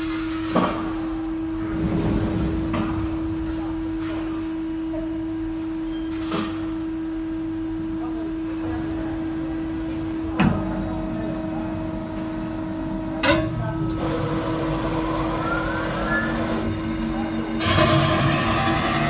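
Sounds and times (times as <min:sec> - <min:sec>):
machine humming and rumbling: 0:00.0 - 0:06.0, 0:06.7 - 0:19.0.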